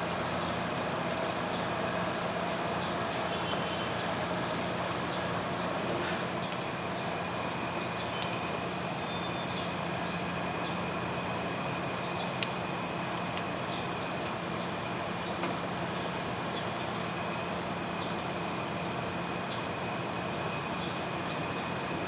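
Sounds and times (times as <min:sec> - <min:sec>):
compressor humming: 0:00.0 - 0:22.0.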